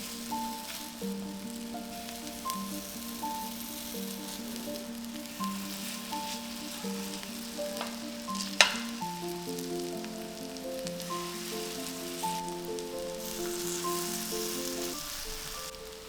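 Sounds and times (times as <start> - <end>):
food sizzling in a pan: 0.0 - 16.0
slow background music: 0.0 - 16.0.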